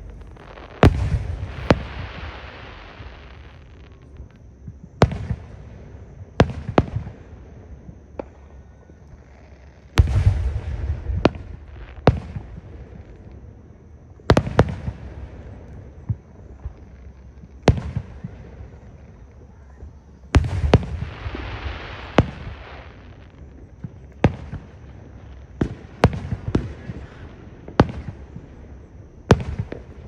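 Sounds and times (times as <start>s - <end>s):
fireworks bursting with bangs: 0.0s - 30.0s.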